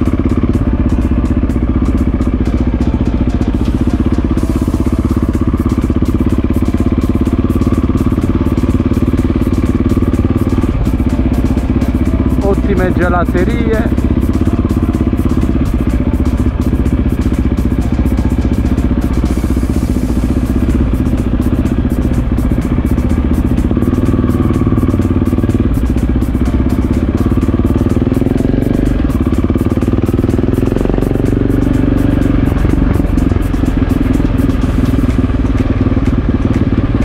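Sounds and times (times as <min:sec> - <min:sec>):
motorcycle engine at low revs: 0:00.0 - 0:37.0.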